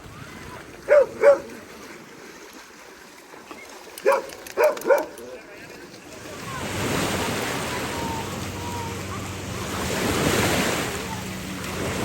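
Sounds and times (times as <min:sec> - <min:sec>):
waves washing at shore: 0:00.0 - 0:12.0.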